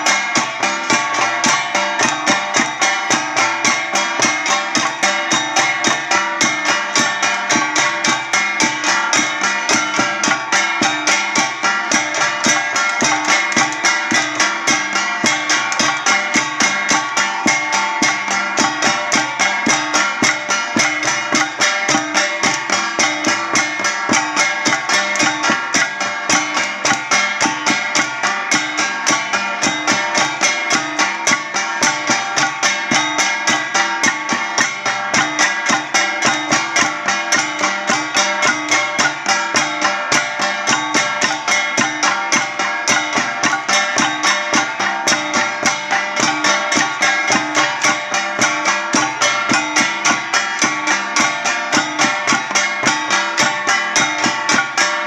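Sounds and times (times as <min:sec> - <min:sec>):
gong and drum music: 0:00.0 - 0:55.0.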